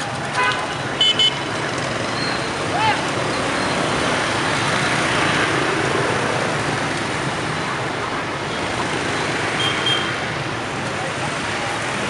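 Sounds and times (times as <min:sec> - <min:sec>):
motorbike and scooter engines: 0:00.0 - 0:12.0.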